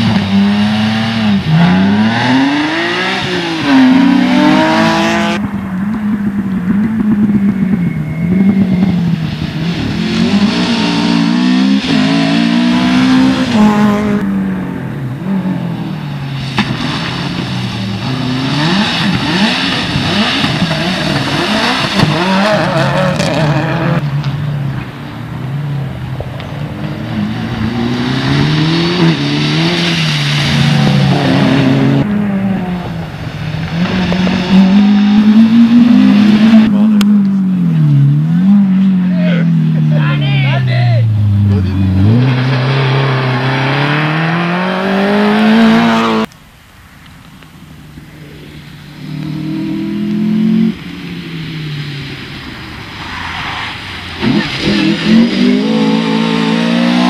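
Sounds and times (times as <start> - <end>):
rally car engines revving: 0.0 - 46.4, 47.3 - 57.0.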